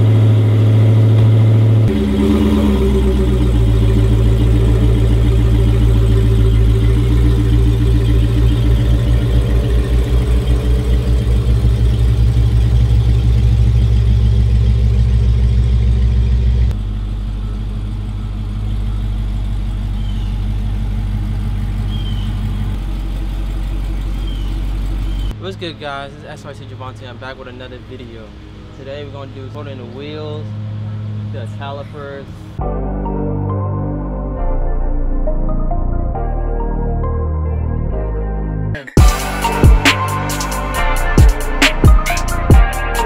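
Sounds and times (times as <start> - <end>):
car engine idling: 0.0 - 32.7, 38.8 - 43.0.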